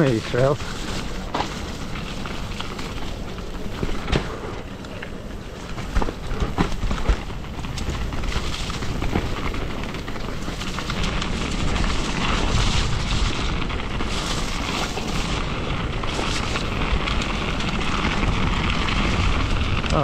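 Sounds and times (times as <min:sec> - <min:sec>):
bike ticking and rattling: 0:00.0 - 0:20.0
tyres crunching over gravel: 0:00.0 - 0:20.0.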